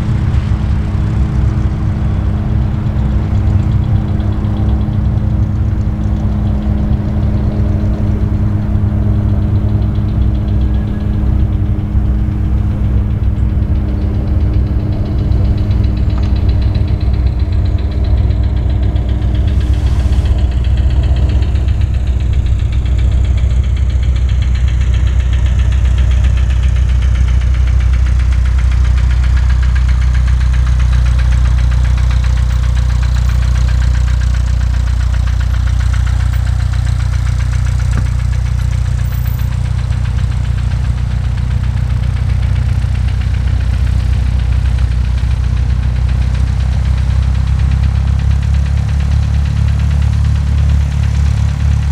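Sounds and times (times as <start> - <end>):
light aircraft engine and propeller: 0.0 - 51.9.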